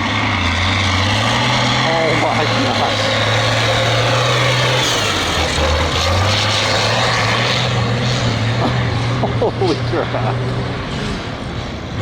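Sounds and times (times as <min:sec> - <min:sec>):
three-wheeler engine droning: 0:00.0 - 0:12.0.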